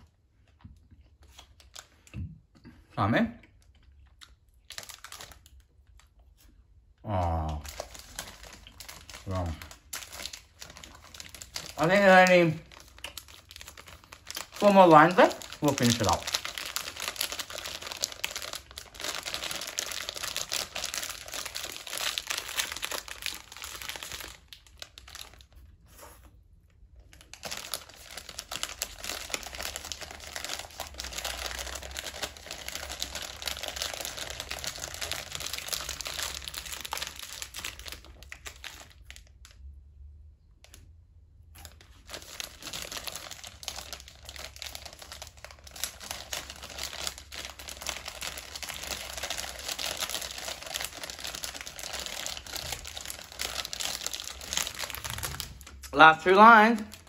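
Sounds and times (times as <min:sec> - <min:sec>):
plastic wrapper crinkling: 0:00.0 - 0:02.1, 0:03.5 - 0:06.6, 0:07.4 - 0:39.8, 0:41.5 - 0:57.0.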